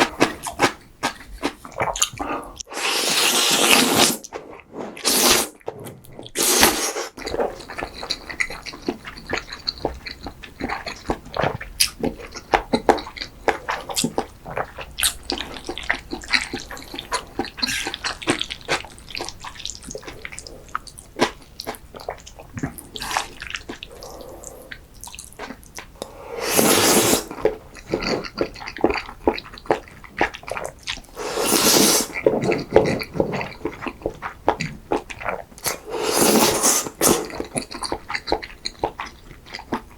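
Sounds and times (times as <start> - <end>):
wet sticky chewing: 0.0 - 39.9.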